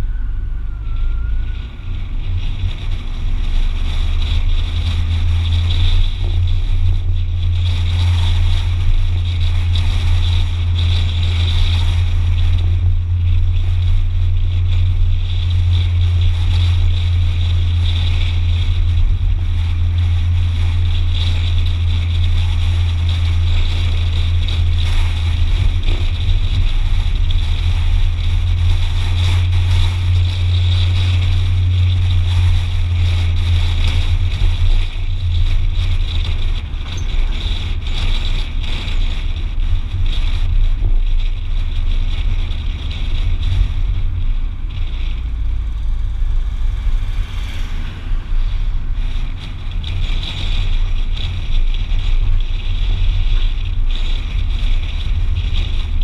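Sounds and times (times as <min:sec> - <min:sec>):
car engine and road rumble: 0:00.0 - 0:56.0
road hiss: 0:00.0 - 0:56.0.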